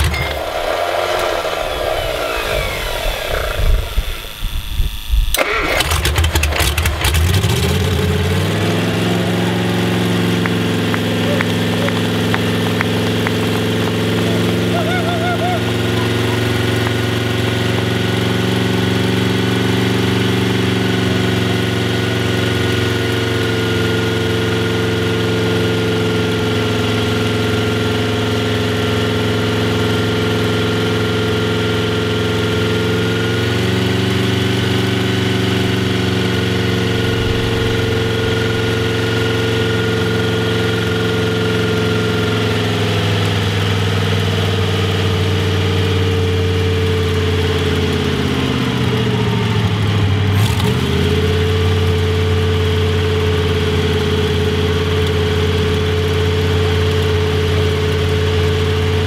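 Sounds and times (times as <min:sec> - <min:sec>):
racing engine idling: 0:05.3 - 0:59.0.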